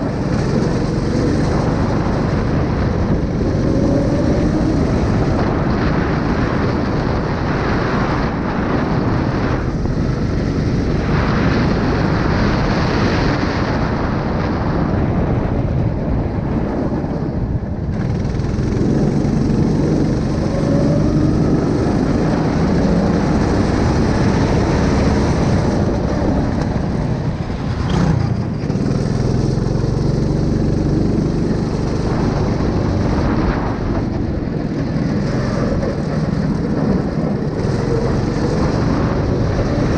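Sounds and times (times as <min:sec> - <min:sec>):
engine running loudly: 0:00.0 - 0:39.9.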